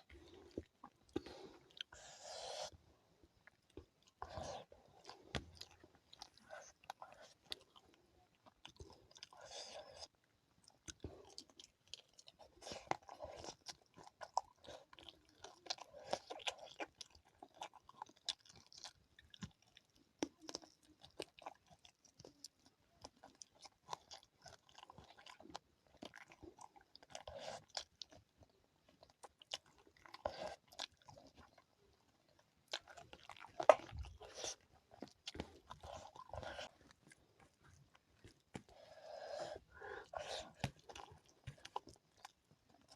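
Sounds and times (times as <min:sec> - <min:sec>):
person chewing and crunching food: 0:00.0 - 0:42.9.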